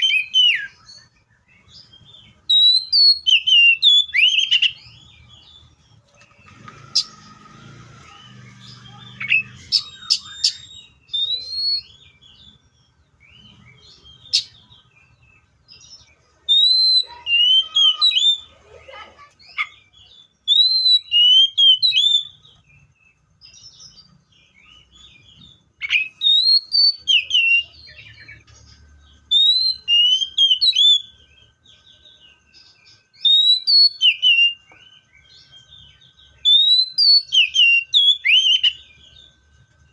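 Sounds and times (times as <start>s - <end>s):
bird singing whistled notes: 0.0s - 18.5s, 19.5s - 39.9s.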